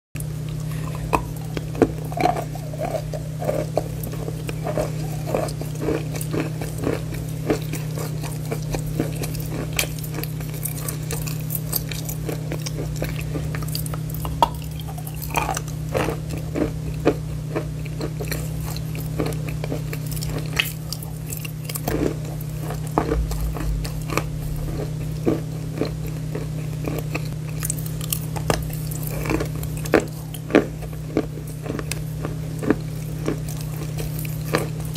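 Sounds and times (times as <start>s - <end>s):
crunchy chewing: 0.2s - 34.9s
steady low hum: 0.2s - 34.9s.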